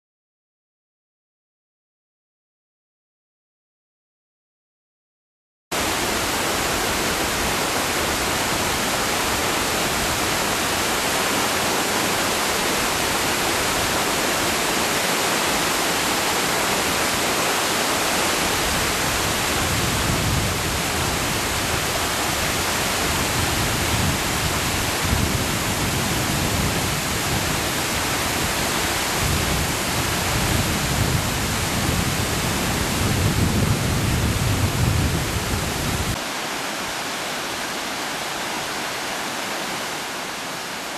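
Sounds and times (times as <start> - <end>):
water rushing over rocks: 5.7 - 40.9.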